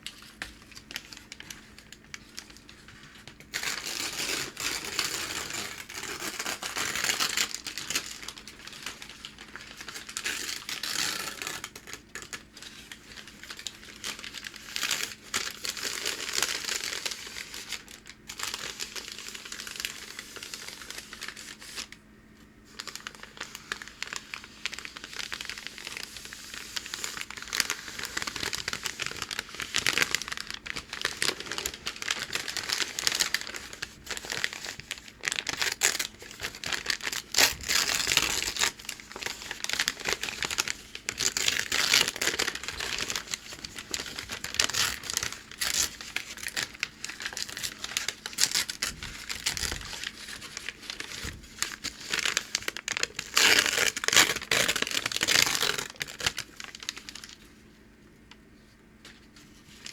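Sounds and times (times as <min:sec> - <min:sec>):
packing paper crinkling: 0:00.0 - 0:59.9.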